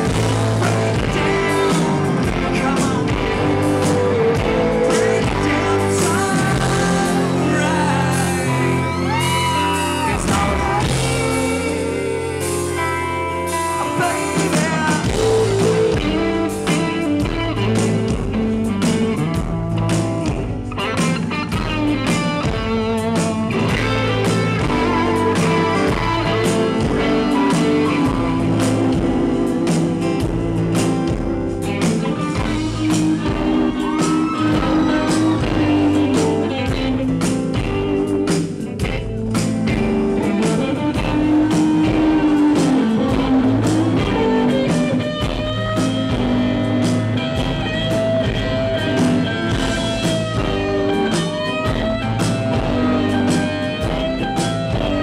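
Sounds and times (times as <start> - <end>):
electric guitar: 0.0 - 55.0
live band music: 0.0 - 55.0.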